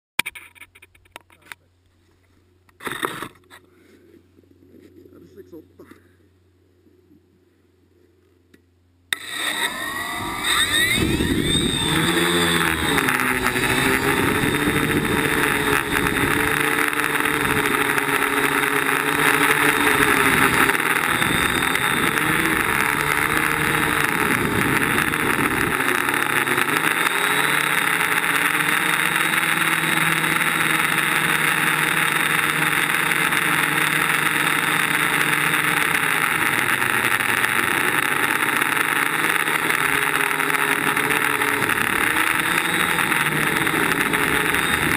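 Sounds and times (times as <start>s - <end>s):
quadcopter motors buzzing: 2.7s - 3.7s, 9.1s - 44.9s.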